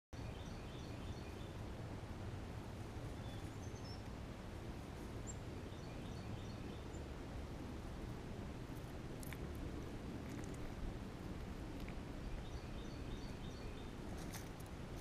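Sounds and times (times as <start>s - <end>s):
low outdoor rumble: 0.2s - 15.0s
songbirds chirping: 0.2s - 15.0s.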